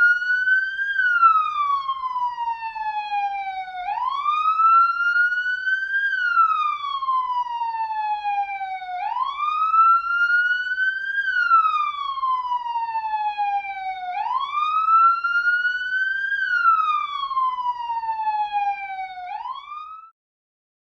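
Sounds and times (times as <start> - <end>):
police siren wailing: 0.0 - 20.1.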